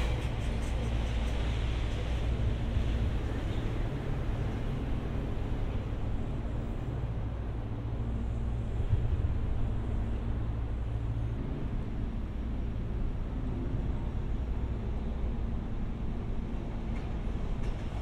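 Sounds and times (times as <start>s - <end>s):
freight train locomotive rumbling: 0.0s - 18.0s.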